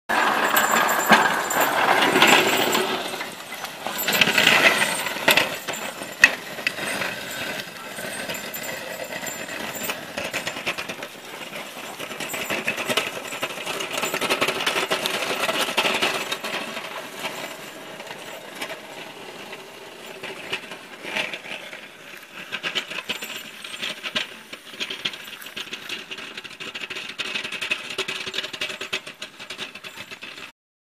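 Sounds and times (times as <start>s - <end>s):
harness and plow rattling: 0.1s - 30.5s.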